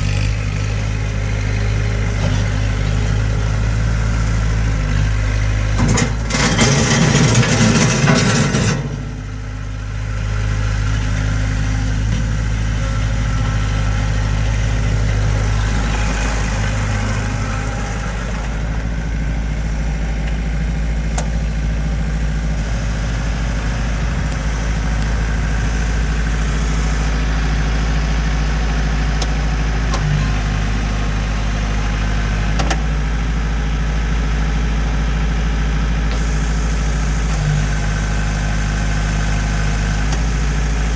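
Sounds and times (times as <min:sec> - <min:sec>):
diesel tractor engine idling: 0:00.0 - 0:40.9.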